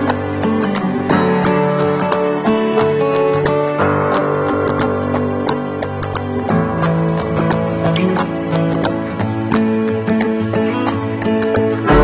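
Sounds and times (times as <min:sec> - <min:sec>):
plucked string melody with beat: 0:00.0 - 0:12.0.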